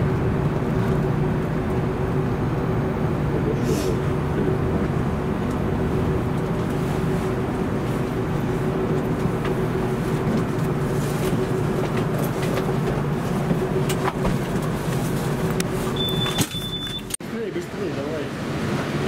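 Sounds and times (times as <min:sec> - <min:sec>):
train electrical hum: 0:00.0 - 0:17.2.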